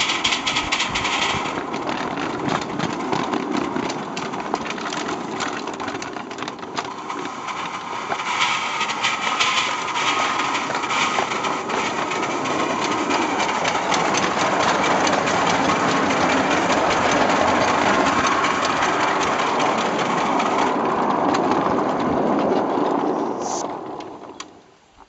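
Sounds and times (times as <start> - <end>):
steam locomotive clicking along track: 0.0 - 24.6.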